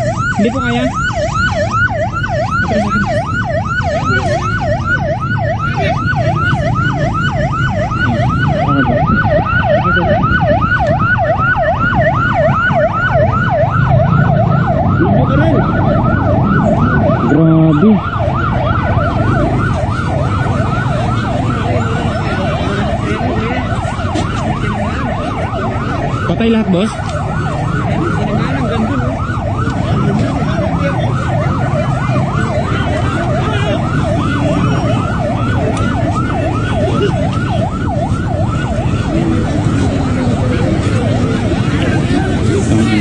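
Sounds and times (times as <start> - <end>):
police siren yelping: 0.0 - 43.0.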